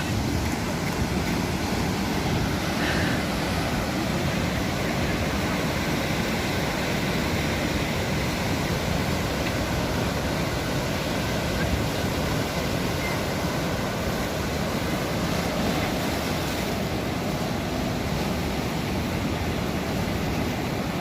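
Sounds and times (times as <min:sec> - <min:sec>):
waves breaking: 0:00.0 - 0:21.0.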